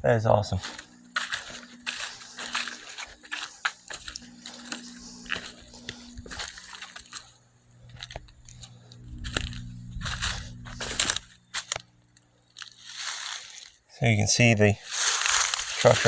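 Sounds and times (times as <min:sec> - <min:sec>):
faint low hum: 0:00.0 - 0:12.9
footsteps crunching on rough ground: 0:00.2 - 0:16.0.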